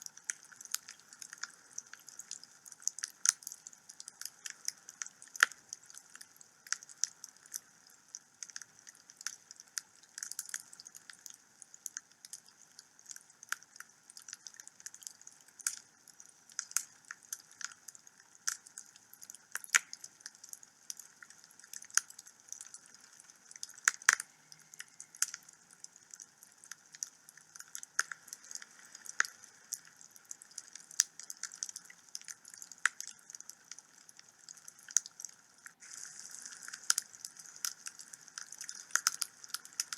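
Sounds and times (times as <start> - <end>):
faint fire hiss: 0.0 - 39.9
wood fire crackling and popping: 0.1 - 39.9.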